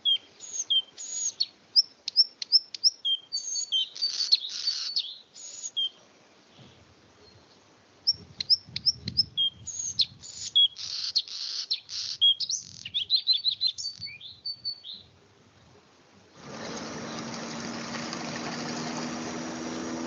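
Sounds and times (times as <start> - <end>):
bird singing: 0.0 - 6.0, 7.2 - 15.1, 16.9 - 20.0.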